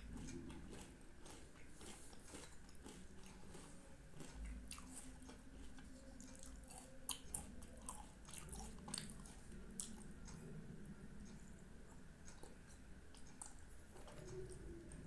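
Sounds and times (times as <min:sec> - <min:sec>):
person chewing: 0:00.0 - 0:10.4, 0:11.3 - 0:15.0.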